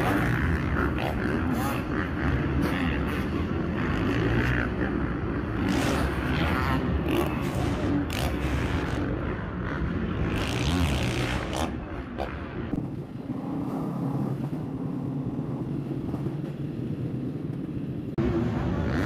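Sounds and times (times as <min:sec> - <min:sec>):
dirt bike engines revving: 0:00.0 - 0:16.0, 0:17.8 - 0:19.0.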